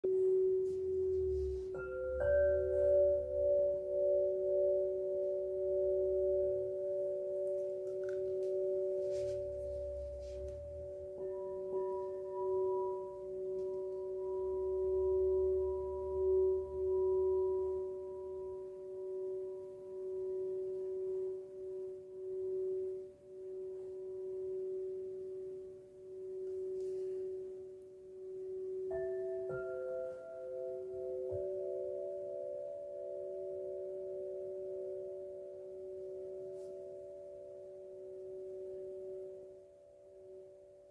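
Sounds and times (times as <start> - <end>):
crystal singing bowl ringing: 0.0 - 40.9.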